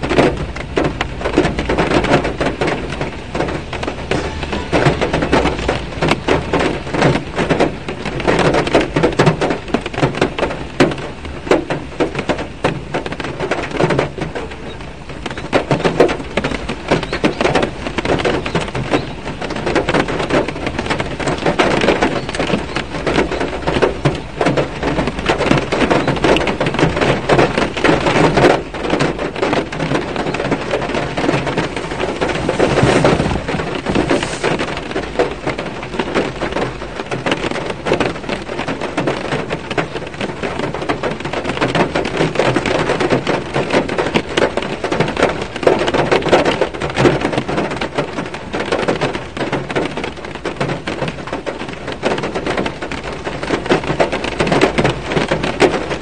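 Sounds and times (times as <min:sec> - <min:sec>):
rain drumming on car roof: 0:00.0 - 0:56.0.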